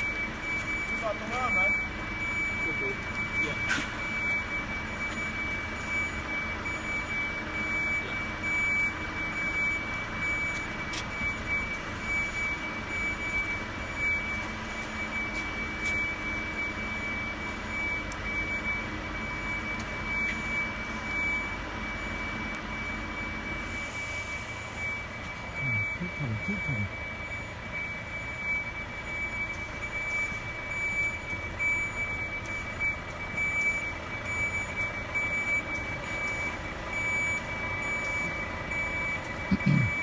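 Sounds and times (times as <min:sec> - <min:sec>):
high warning beeper: 0:00.0 - 0:40.0.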